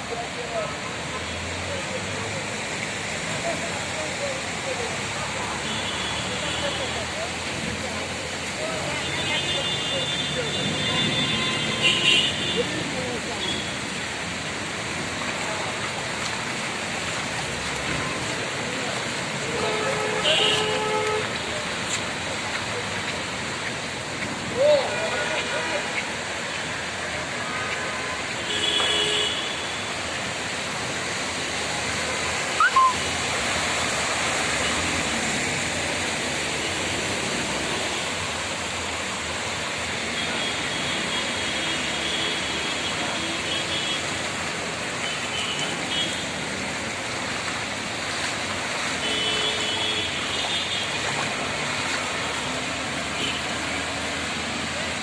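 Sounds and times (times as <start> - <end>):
heavy rain: 0.0 - 55.0
running floodwater: 0.0 - 55.0.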